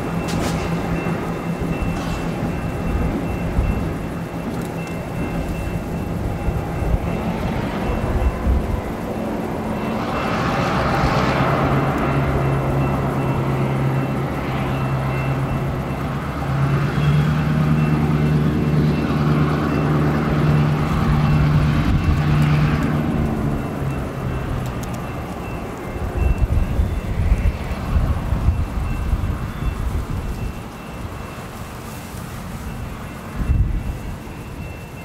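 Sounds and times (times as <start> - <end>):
locomotive engine drone: 0.0 - 35.0.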